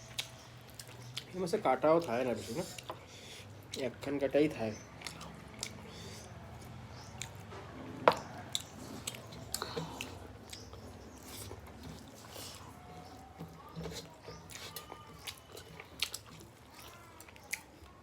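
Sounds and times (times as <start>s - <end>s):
chewing and mouth sounds: 0.0s - 4.1s, 4.7s - 18.0s.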